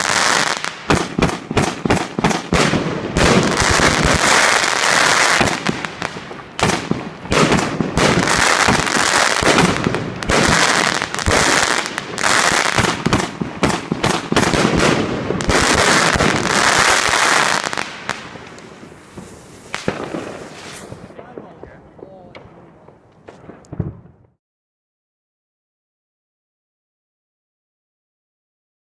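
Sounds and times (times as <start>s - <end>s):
hissing crackle of fireworks: 0.0s - 23.9s
fireworks cracks and pops: 0.0s - 24.3s.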